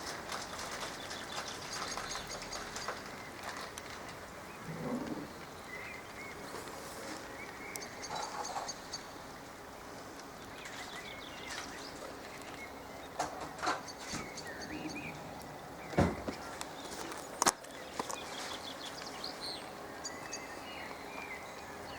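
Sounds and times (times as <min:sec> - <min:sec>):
birds chirping: 0:00.0 - 0:21.9
steady background hiss: 0:00.0 - 0:21.9.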